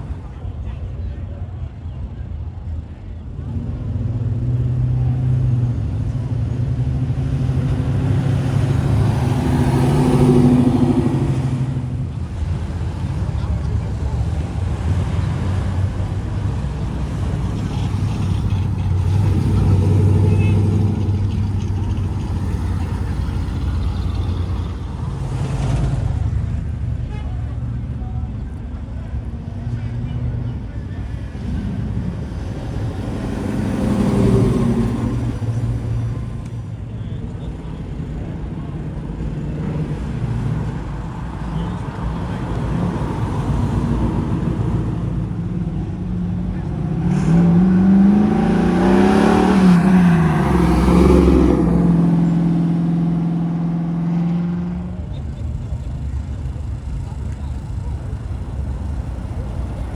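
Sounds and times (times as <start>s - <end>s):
car engine rumbling driving past: 3.6s - 59.9s.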